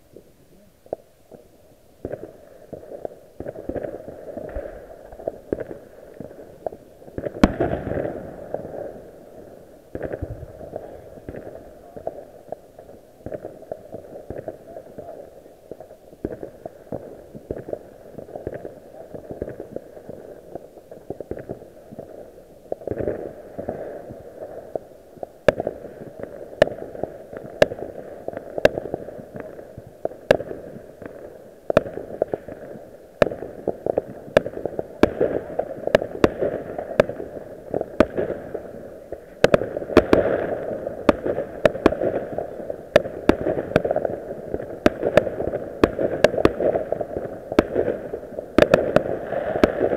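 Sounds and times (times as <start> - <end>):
fireworks crackle and rumble: 0.0 - 49.9
fireworks sharp bangs: 0.2 - 49.9.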